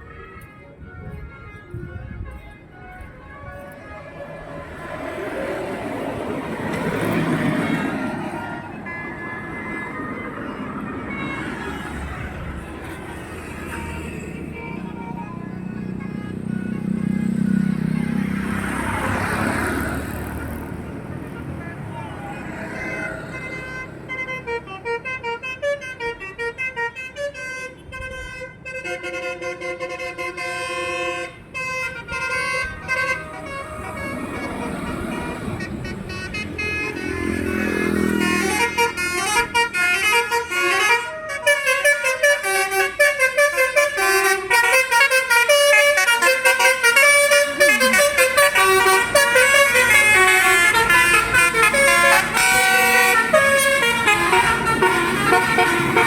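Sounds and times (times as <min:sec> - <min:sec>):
multi-tone musical bus horn: 0:00.0 - 0:56.0.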